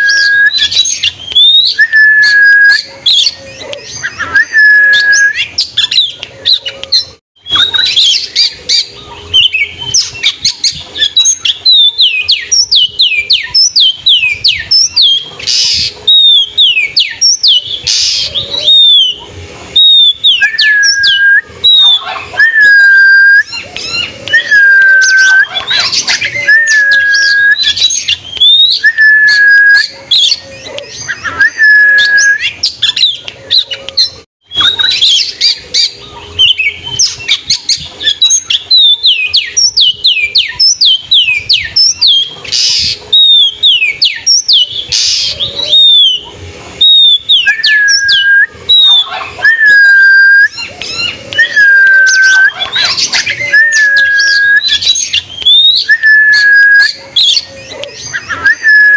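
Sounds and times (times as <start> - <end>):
songbird whistling song: 0.0 - 58.9.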